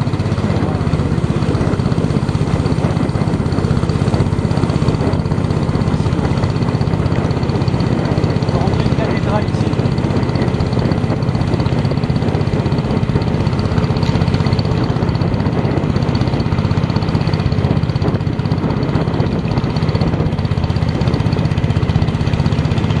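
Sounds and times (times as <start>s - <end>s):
small boat engine running: 0.0s - 23.0s.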